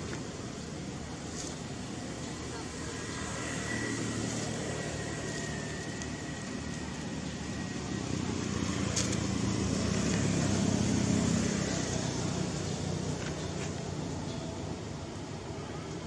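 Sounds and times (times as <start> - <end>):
road vehicle passing: 0.0 - 15.5.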